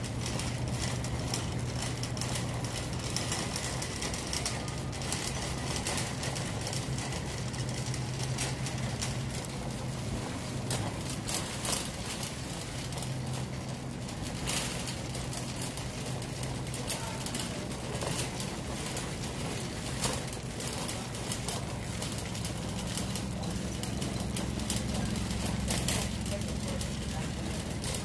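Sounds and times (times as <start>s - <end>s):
cart basket rattling: 0.0s - 28.0s
shopping cart rolling on concrete: 0.0s - 28.0s
steady low hum: 0.0s - 28.0s.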